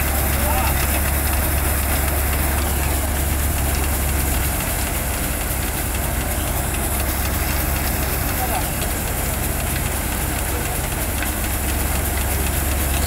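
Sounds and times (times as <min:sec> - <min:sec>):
threshing machine running: 0:00.0 - 0:13.0.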